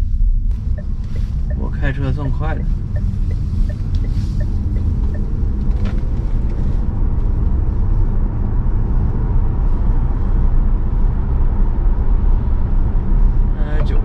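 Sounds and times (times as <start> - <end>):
road and wind noise in car: 0.0 - 14.0.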